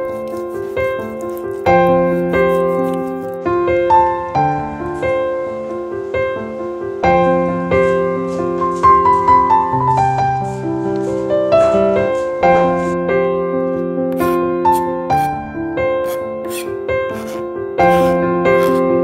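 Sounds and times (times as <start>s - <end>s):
gentle solo piano: 1.9s - 19.0s.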